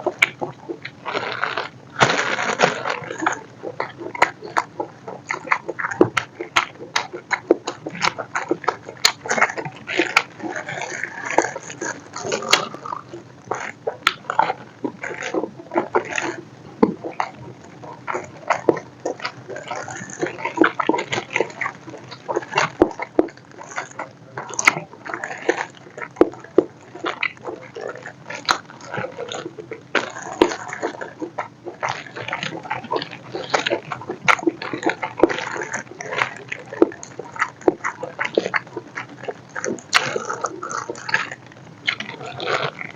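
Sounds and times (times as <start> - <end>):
biting and chewing: 0.0 - 42.9
wet clicky mouth noises: 0.0 - 42.9.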